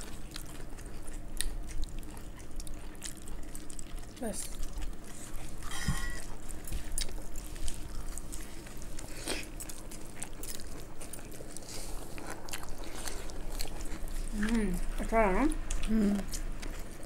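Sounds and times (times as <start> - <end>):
food crunch: 0.0 - 17.0
people chewing and lip smacking: 0.0 - 17.0.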